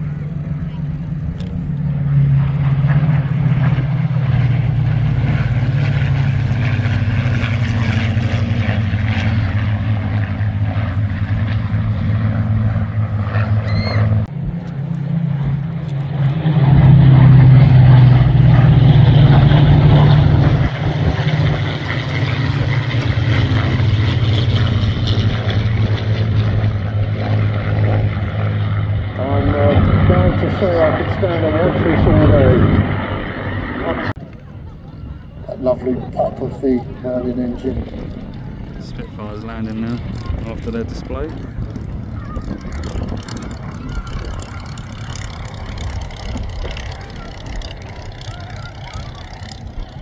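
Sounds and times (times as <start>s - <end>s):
propeller planes droning overhead: 0.0s - 50.0s.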